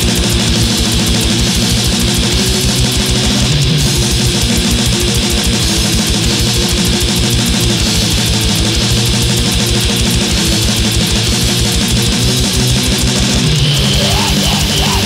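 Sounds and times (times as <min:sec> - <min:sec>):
distorted electric guitars: 0:00.0 - 0:15.0
fast drum beat: 0:00.0 - 0:15.0.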